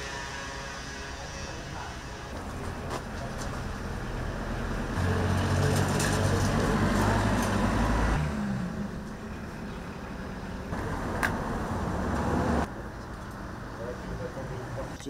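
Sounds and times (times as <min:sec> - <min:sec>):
street traffic noise: 0:00.0 - 0:15.0
vehicle engine humming: 0:00.0 - 0:15.0.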